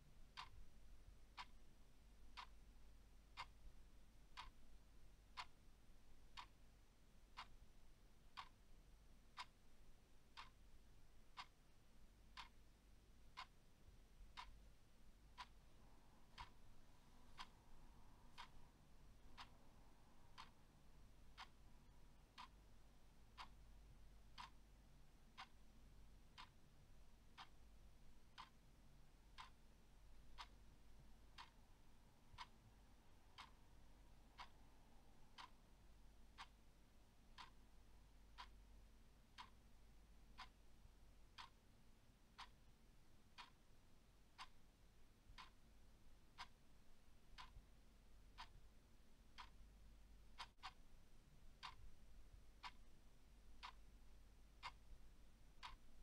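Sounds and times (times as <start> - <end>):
clock ticking: 0.0 - 56.0
faint low hum: 0.0 - 56.0.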